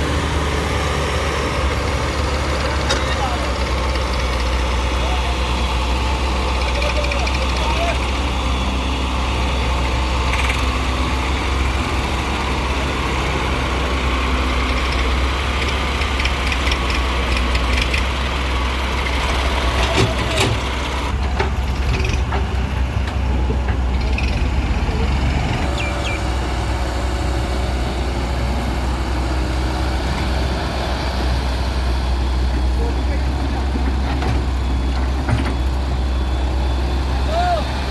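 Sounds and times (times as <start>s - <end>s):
heavy diesel machinery humming: 0.0s - 37.9s.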